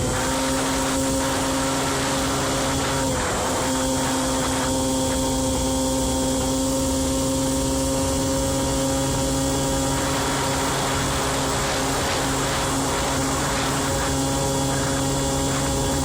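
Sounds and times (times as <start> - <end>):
two-stroke scooter engine running: 0.0 - 16.0.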